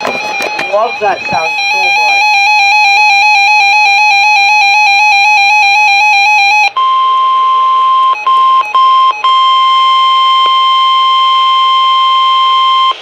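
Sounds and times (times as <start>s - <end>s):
steady high alarm tone: 0.0s - 13.0s.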